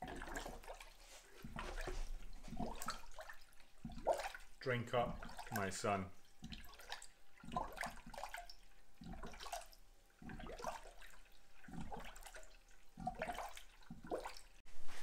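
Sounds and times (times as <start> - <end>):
coolant gurgling and glugging: 0.0 - 14.6.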